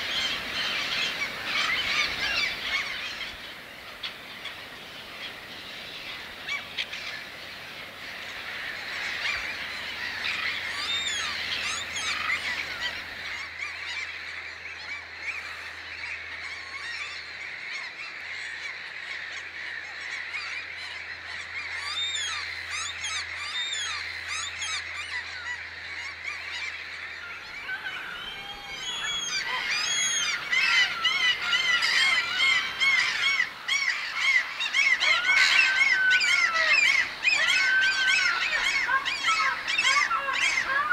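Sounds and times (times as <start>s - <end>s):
flock of birds honking: 0.0s - 40.9s.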